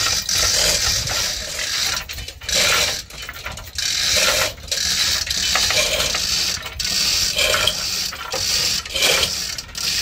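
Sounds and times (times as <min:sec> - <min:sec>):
rasping strokes on metal: 0:00.0 - 0:10.0.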